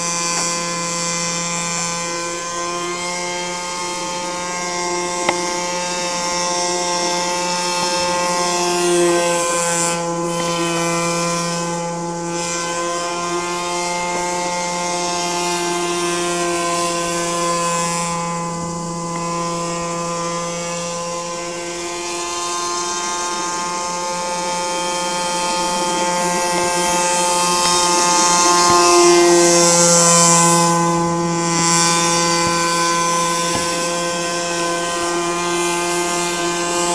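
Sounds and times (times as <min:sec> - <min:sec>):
model airboat motor buzzing: 0:00.0 - 0:36.9.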